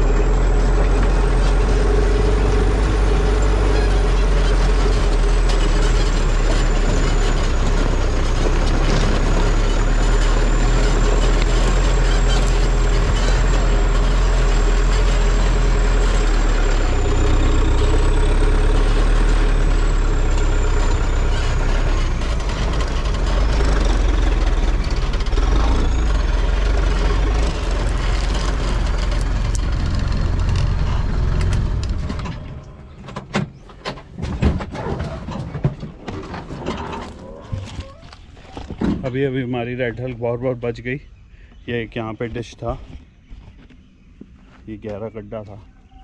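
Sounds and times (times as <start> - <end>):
vehicle engine running under load: 0.0 - 40.7.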